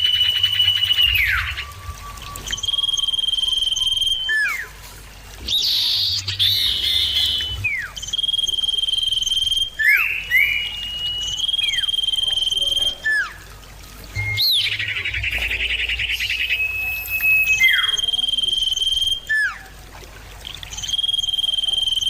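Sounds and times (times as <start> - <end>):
bird whistling song: 0.0 - 19.7, 20.4 - 22.0.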